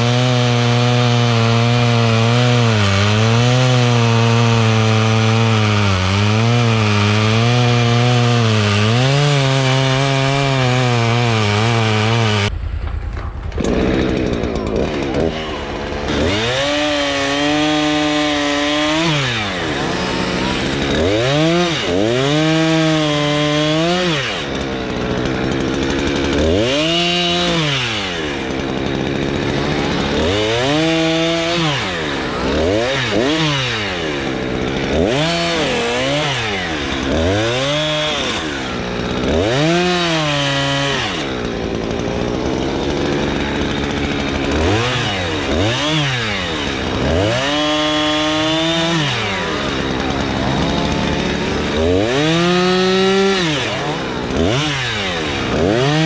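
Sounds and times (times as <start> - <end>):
chainsaw engine revving: 0.0 - 12.5, 13.5 - 56.0.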